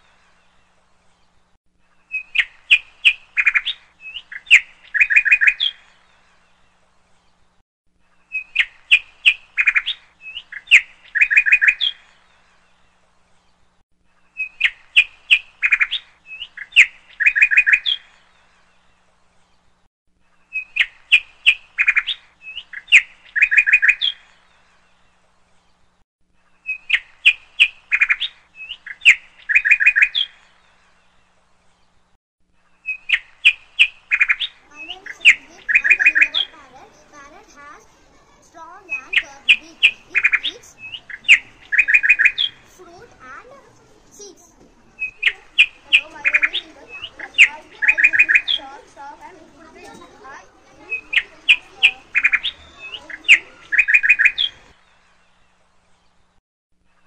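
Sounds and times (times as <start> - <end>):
birdsong chirps and trills: 0.0 - 57.0.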